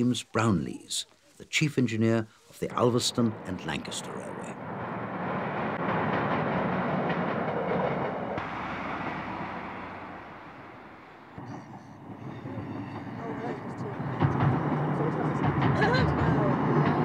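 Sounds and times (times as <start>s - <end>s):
train running on track: 2.5s - 17.0s.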